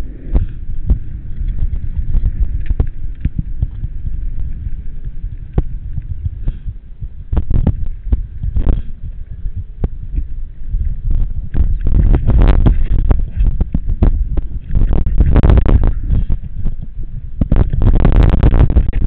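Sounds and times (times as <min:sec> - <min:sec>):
bike vibration rumble: 0:00.0 - 0:19.0.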